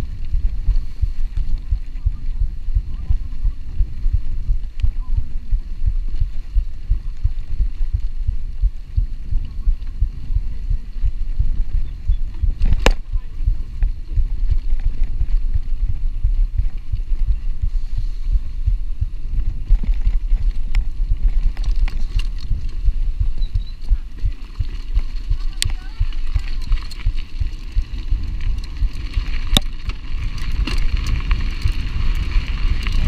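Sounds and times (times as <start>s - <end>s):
bike rumbling over bumpy grass: 0.0s - 33.0s.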